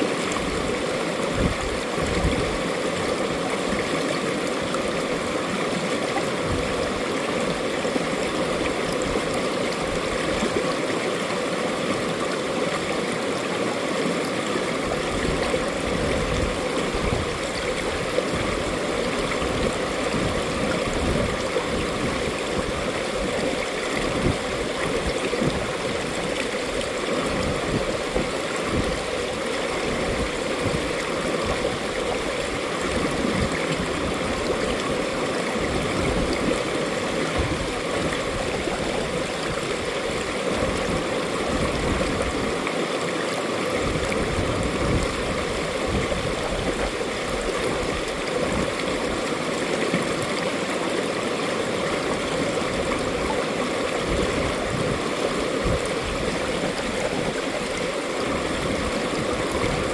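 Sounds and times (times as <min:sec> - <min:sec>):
stream water rushing and gurgling: 0:00.0 - 0:59.9.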